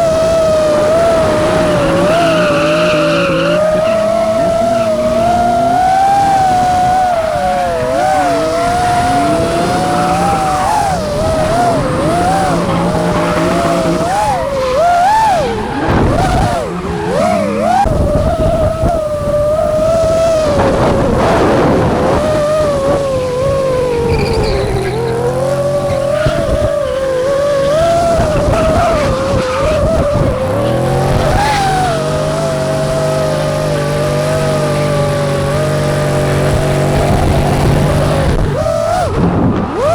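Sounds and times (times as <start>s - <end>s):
car engine revving: 0.0s - 39.9s
tyres squealing: 0.0s - 39.9s.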